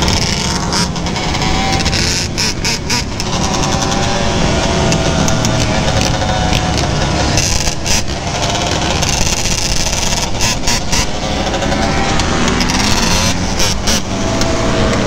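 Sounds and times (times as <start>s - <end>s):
other quads and dirt bikes: 0.0s - 15.0s
quad engine running: 0.0s - 15.0s.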